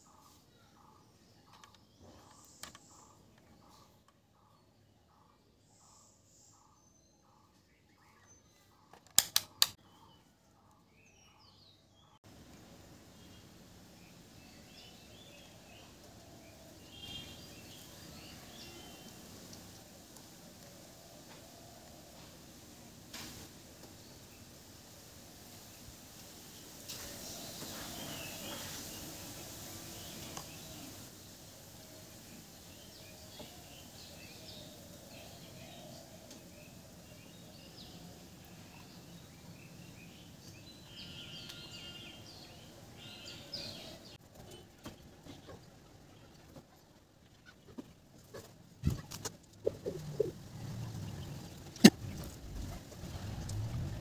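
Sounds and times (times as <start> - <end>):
small birds chirping: 0.0 - 53.2
faint background noise: 0.0 - 54.0.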